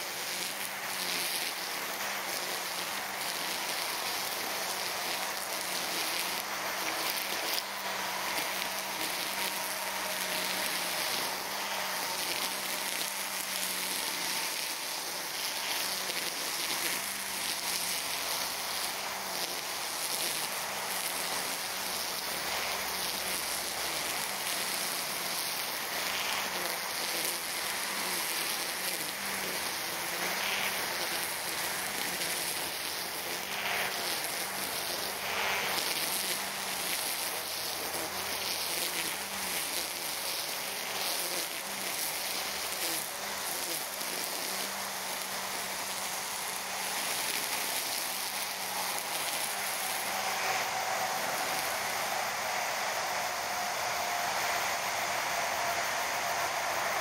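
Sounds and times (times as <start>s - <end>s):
string trimmer cutting grass: 0.0s - 57.0s.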